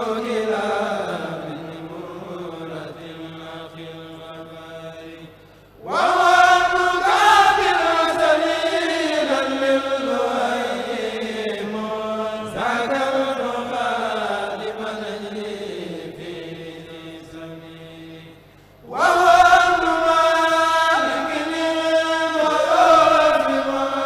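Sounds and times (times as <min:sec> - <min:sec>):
men chanting through microphones: 0:00.0 - 0:24.0.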